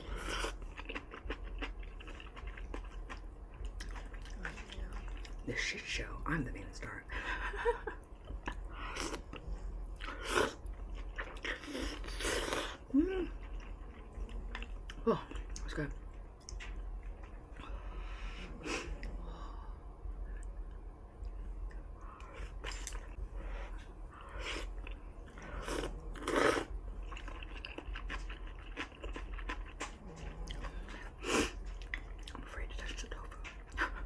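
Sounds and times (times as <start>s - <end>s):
person chewing noodles: 0.0s - 5.4s, 8.2s - 19.4s, 21.2s - 34.0s.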